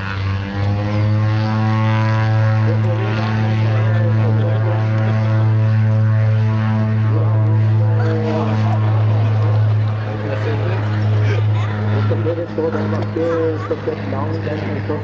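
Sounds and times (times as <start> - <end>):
turboprop propeller drone: 0.0 - 15.0.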